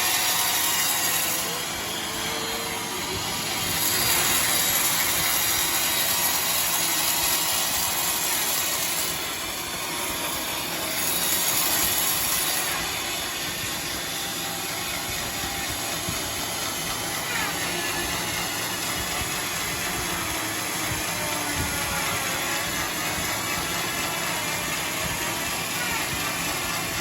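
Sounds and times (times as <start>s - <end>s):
sawmill saw cutting wood: 0.0s - 27.0s.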